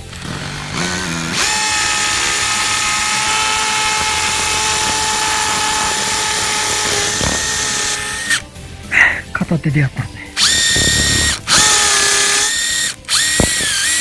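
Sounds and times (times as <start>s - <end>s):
hammer drill drilling into mortar: 0.0s - 8.4s, 10.4s - 14.0s.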